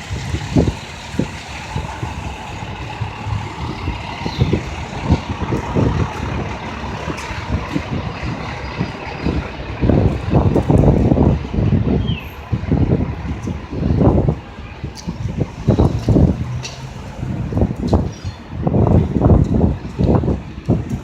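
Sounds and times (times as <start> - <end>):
diesel engine running: 0.0 - 21.0
wind thumps on microphone: 0.0 - 21.0.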